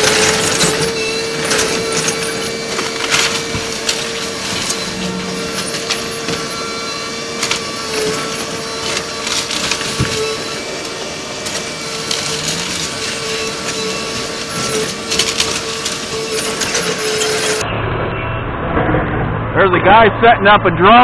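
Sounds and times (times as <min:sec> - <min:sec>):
debris crunching and crackling: 0:00.0 - 0:17.6
excavator whine: 0:00.0 - 0:19.8.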